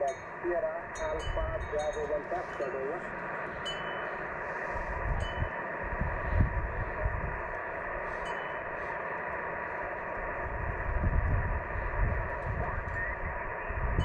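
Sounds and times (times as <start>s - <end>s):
faint steady tones: 0.0s - 14.0s
radio static hiss: 0.0s - 14.0s
wind rumbling on microphone: 0.0s - 14.0s.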